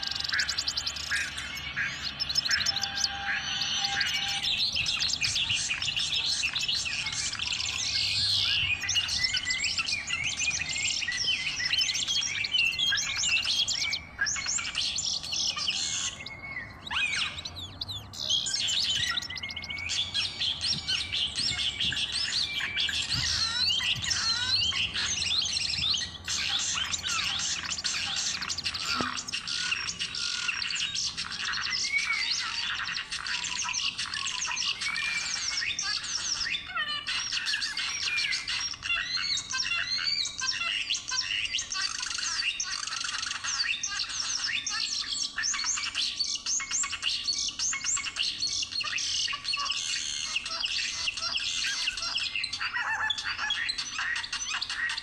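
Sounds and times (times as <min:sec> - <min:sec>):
budgerigars chattering and warbling: 0:00.0 - 0:55.0.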